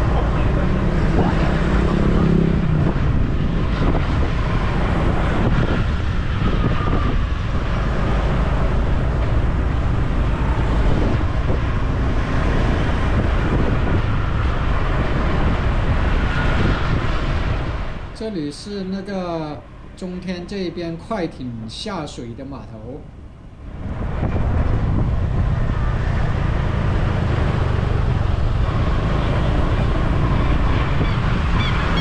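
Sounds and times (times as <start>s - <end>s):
low engine hum: 0.0s - 18.2s, 23.0s - 32.0s
road traffic noise: 0.0s - 32.0s
wind rush on microphone: 0.0s - 32.0s.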